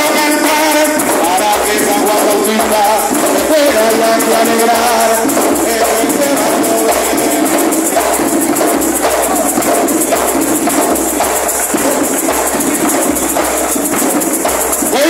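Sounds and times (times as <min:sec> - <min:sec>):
drums: 0:00.0 - 0:15.0
maracas shaking: 0:00.0 - 0:15.0
men singing into microphones: 0:00.0 - 0:15.0.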